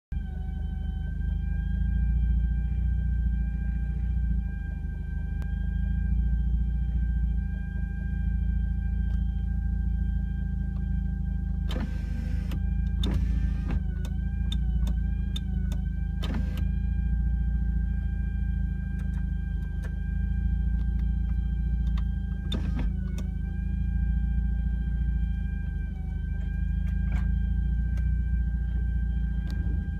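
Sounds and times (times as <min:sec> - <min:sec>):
high engine whine: 0:00.0 - 0:29.9.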